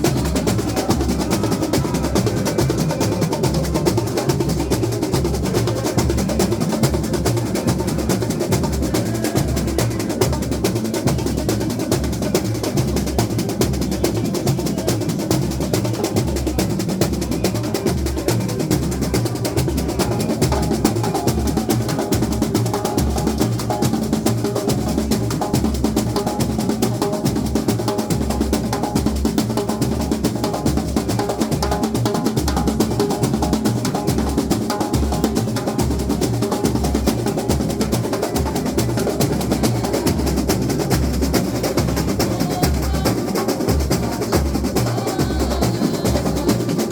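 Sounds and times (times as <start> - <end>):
samba drum ensemble: 0.0 - 46.9
snare drums and percussion: 0.0 - 46.9.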